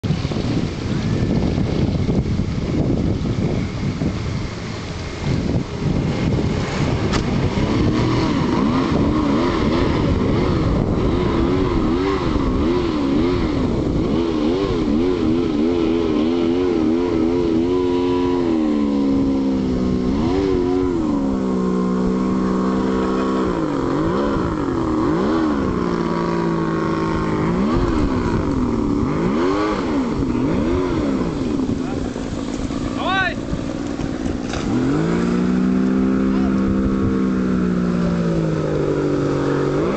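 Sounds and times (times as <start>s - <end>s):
motorboat engine running: 0.0s - 39.9s
steady rushing noise: 0.0s - 39.9s.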